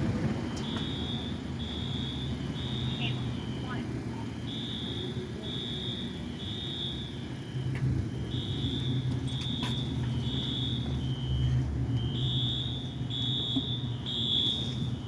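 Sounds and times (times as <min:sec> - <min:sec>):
fire alarm two-pitch electronic tone: 0:00.5 - 0:15.0.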